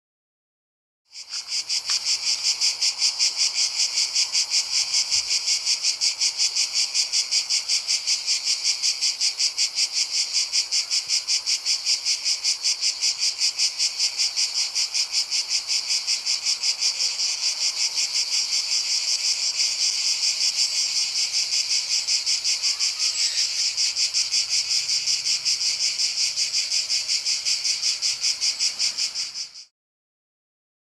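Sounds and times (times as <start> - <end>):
insects buzzing in chorus: 1.1 - 29.7.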